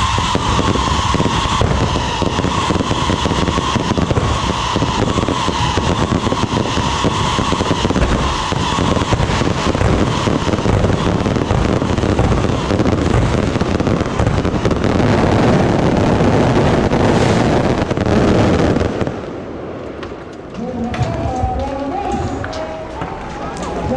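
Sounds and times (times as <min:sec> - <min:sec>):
fireworks bangs and crackling: 0:00.0 - 0:23.9.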